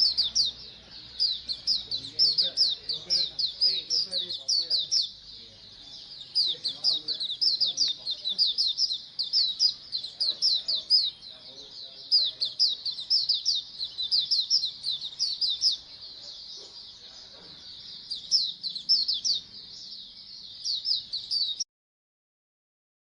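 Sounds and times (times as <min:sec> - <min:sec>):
birds chirping: 0:00.0 - 0:21.7.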